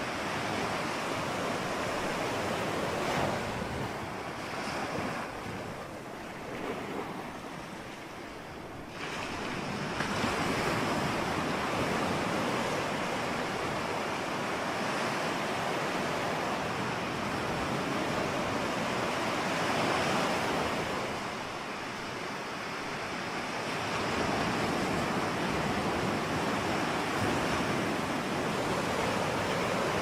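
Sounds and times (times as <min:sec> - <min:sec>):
ocean waves washing: 0:00.0 - 0:30.0.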